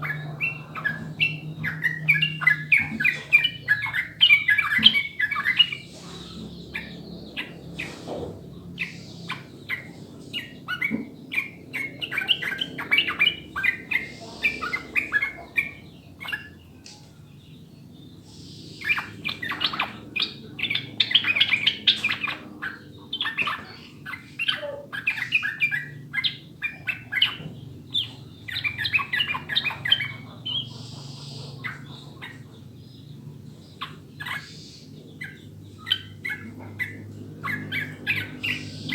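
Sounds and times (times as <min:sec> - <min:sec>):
bird singing chattering notes: 0:00.0 - 0:38.9.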